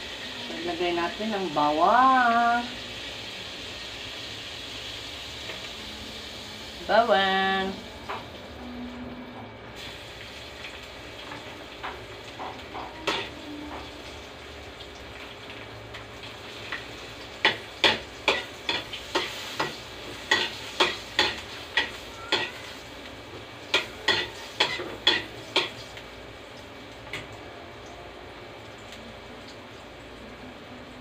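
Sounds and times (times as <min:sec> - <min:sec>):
faint sizzle: 0:00.0 - 0:31.0.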